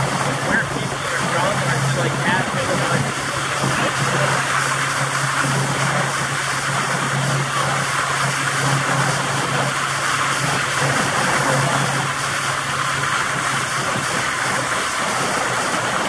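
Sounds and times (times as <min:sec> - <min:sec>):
boat motor humming: 0:00.0 - 0:16.0
rushing water: 0:00.0 - 0:16.0.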